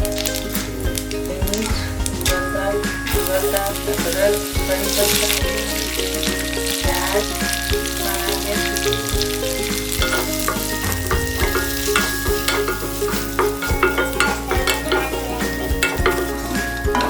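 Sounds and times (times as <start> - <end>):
food sizzling in hot oil: 0.0 - 17.0
utensil tapping against pan: 0.0 - 17.0.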